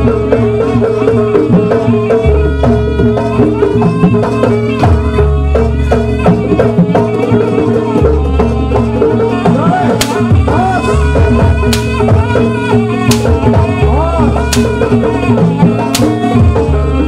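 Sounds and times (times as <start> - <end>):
drums beating: 0.0 - 17.0
wavering melody: 0.0 - 17.0.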